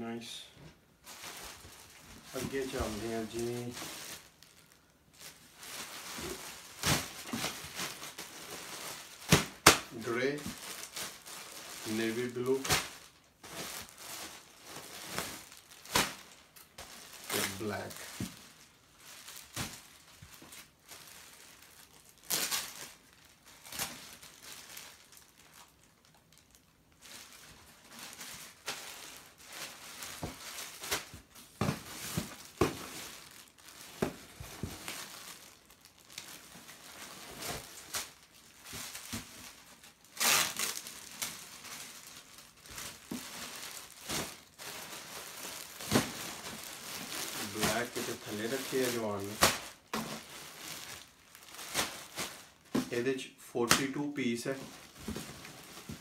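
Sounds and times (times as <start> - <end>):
plastic bags crinkling: 1.0 - 53.0, 53.6 - 56.0.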